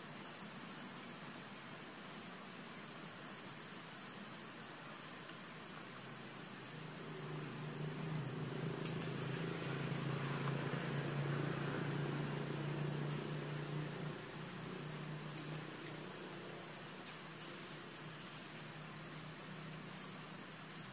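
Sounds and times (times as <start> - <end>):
crickets chorus: 0.0 - 20.9.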